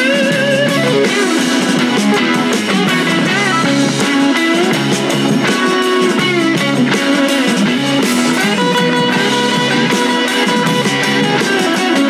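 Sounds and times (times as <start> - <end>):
guitar-led background music: 0.0 - 12.0.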